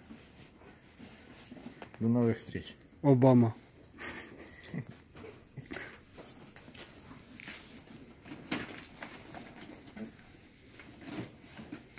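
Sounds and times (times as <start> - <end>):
animal rustling against jacket: 0.0 - 2.7, 3.3 - 11.9.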